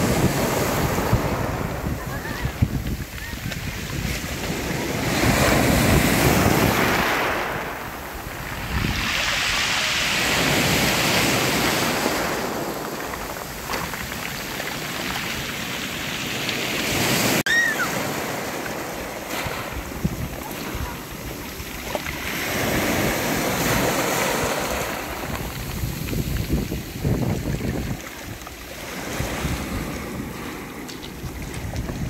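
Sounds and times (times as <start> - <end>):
sea waves washing onto beach: 0.0 - 32.0.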